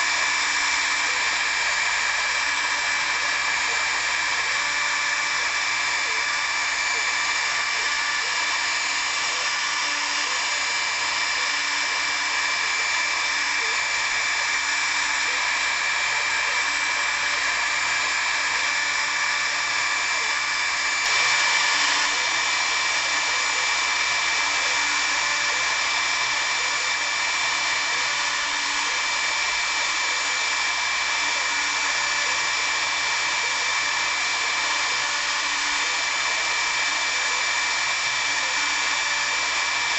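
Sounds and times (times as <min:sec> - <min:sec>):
router spindle milling wood: 0:00.0 - 0:39.9.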